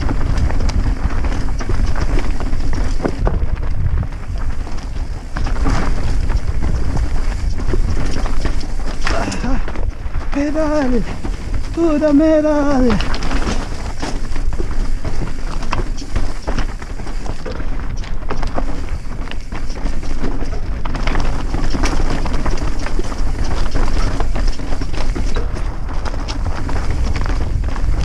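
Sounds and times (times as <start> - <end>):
stones and gear rattling: 0.0 - 28.0
wind buffeting microphone: 0.0 - 28.0.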